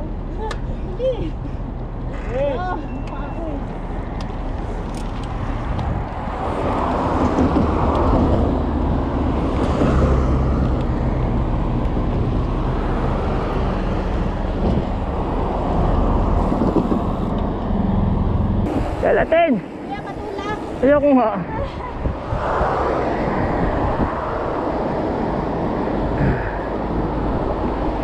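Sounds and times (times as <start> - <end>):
road noise: 0.0 - 28.0
wind buffeting microphone: 3.6 - 28.0.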